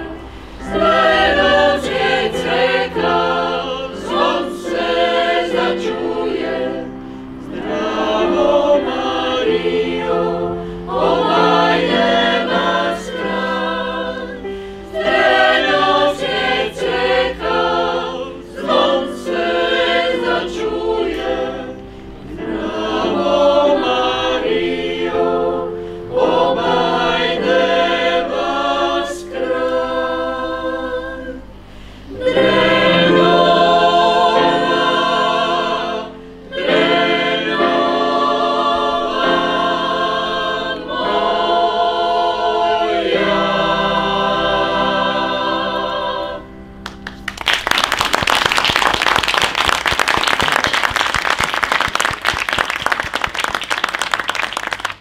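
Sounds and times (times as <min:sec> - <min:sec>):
women's choir singing: 0:00.0 - 0:46.8
piano accompaniment: 0:00.0 - 0:50.9.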